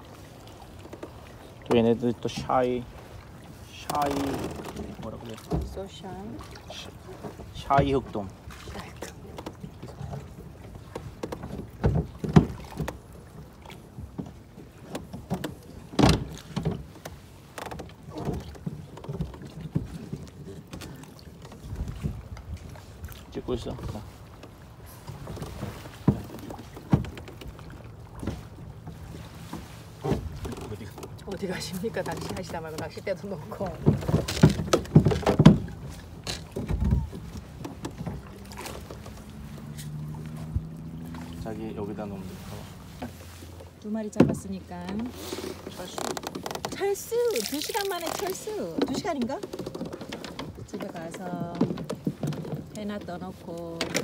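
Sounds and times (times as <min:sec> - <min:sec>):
water slapping against kayak hull: 0:00.0 - 0:54.0.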